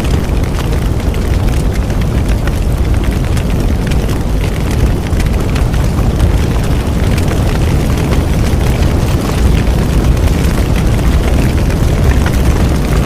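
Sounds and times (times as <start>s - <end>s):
burning wood crackling and popping: 0.0s - 13.0s
rumble of bonfire flames: 0.0s - 13.0s.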